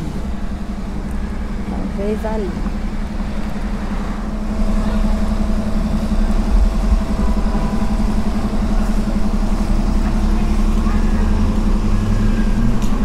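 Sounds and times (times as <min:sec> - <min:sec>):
street traffic: 0:00.0 - 0:13.0
vehicle engine running: 0:00.0 - 0:13.0.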